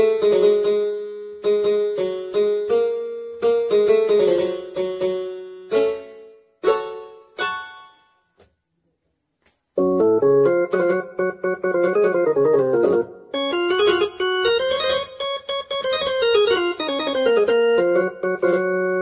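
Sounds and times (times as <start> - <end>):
electronic keyboard notes: 0.0 - 8.2, 9.8 - 19.0.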